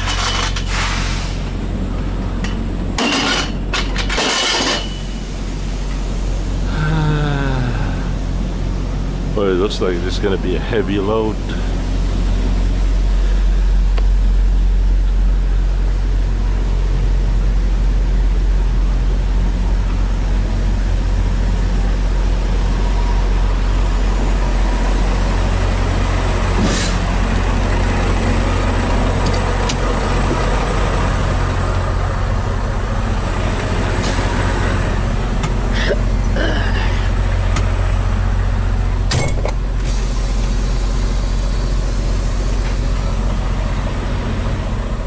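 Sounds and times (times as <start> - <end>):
diesel engines idling: 0.0 - 45.0.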